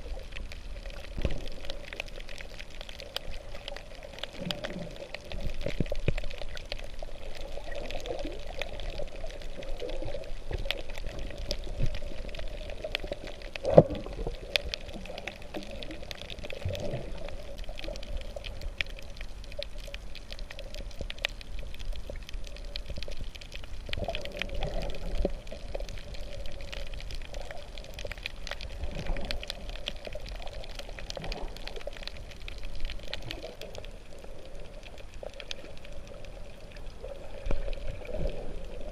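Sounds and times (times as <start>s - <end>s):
faint clicks: 0.0s - 38.9s
underwater swishing and gurgling: 0.0s - 38.9s.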